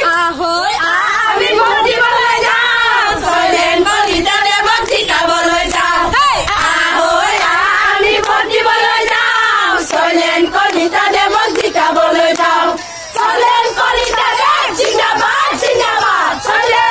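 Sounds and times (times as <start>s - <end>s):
crowd chanting slogans: 0.0s - 16.9s.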